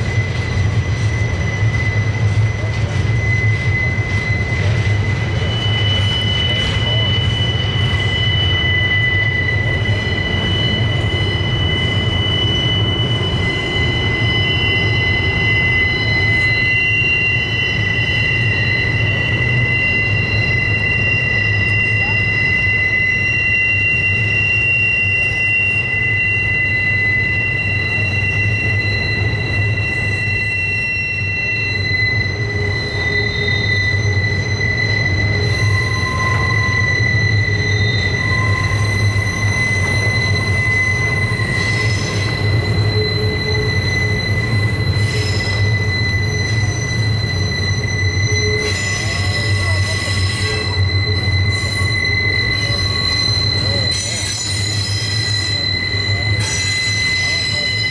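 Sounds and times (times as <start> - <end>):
rumble of train cars rolling: 0.0 - 57.9
train wheels squealing on rail: 0.0 - 57.9.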